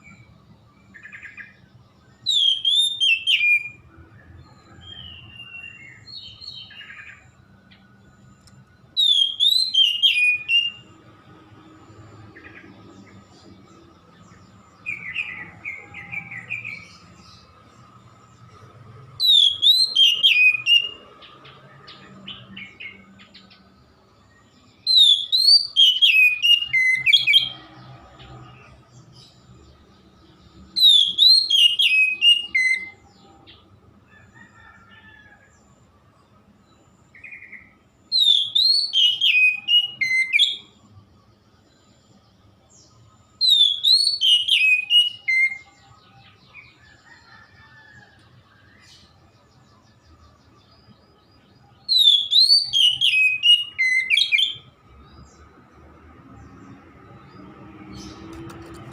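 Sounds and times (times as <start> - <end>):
bird singing whistled notes: 0.0 - 33.8, 36.6 - 55.6.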